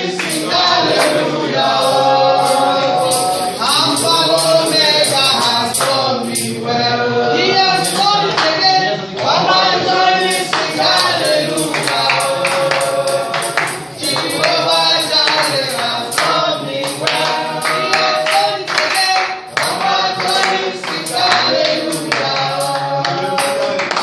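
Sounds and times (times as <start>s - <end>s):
tambourine beat: 0.0s - 6.7s, 7.7s - 24.0s
congregation singing: 0.0s - 24.0s.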